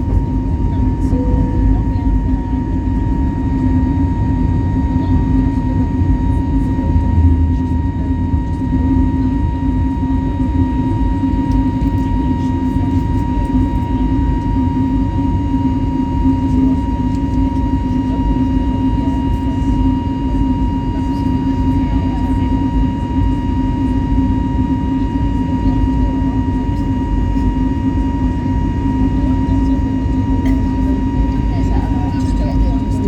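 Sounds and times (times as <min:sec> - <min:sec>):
aircraft cabin engine rumble: 0:00.0 - 0:33.0.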